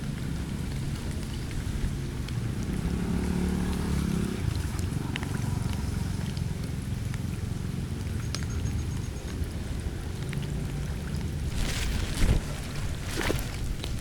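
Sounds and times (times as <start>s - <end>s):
small ticks and drips: 0.0s - 11.9s
floodwater draining: 0.0s - 14.0s.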